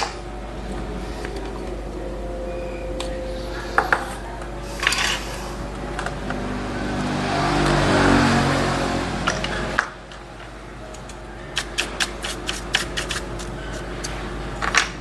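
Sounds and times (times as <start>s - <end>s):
engine-like sound: 0.0s - 12.1s
steady electrical hum: 0.0s - 15.0s.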